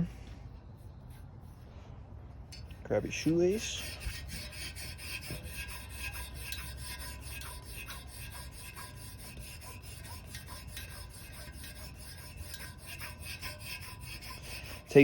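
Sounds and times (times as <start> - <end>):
shoelace rubbing on wheel spoke: 2.8 - 15.0.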